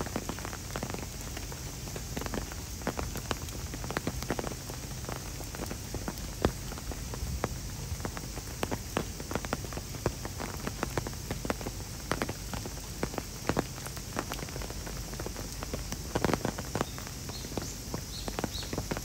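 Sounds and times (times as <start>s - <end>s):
rain falling: 0.0s - 19.0s
water dripping and splashing: 0.0s - 19.0s.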